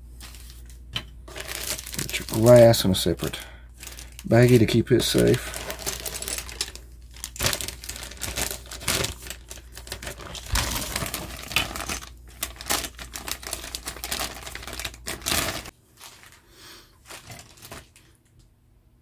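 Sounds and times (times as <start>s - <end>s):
plastic bag crinkling: 0.3s - 18.2s.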